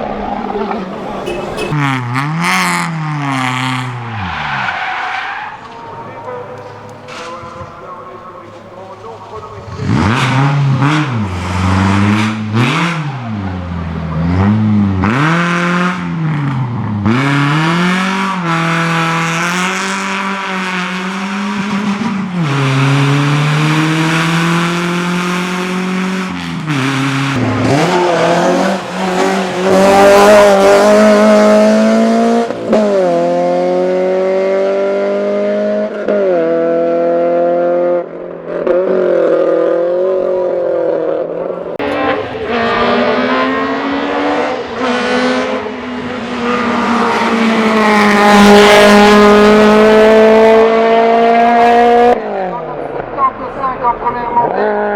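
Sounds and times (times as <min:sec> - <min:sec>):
race car engine revving: 0:00.0 - 0:53.2.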